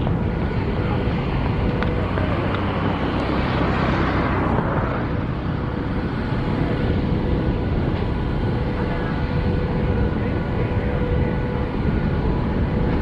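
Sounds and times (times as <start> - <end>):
locomotive engine rumble: 0.0 - 13.0
wind noise on microphone: 0.0 - 13.0.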